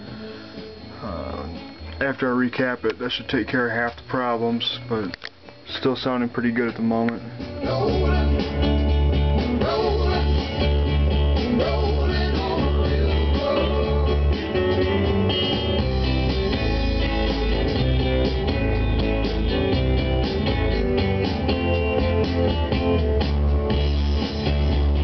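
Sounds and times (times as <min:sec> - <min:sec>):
rock music through speakers: 0:00.0 - 0:25.0.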